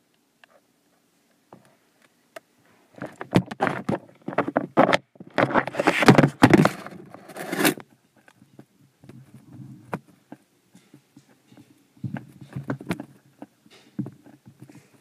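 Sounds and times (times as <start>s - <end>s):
scraping and rustling: 2.7s - 15.0s.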